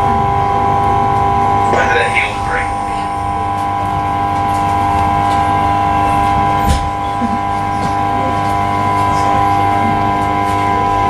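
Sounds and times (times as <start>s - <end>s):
electric train motor whine: 0.0s - 11.0s
train running rumble: 0.0s - 11.0s.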